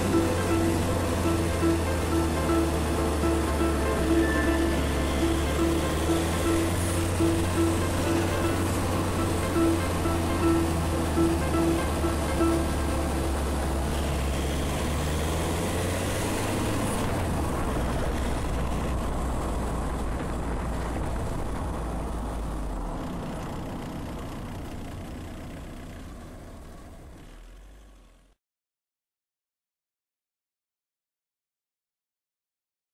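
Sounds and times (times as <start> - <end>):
road and wind noise: 0.0 - 28.4.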